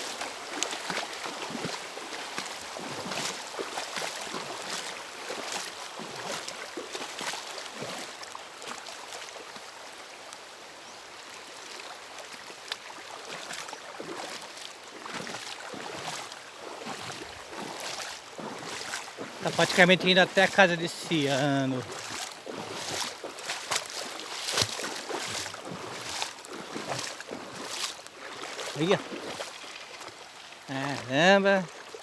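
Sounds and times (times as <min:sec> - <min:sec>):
floodwater splashing and sloshing: 0:00.0 - 0:32.0.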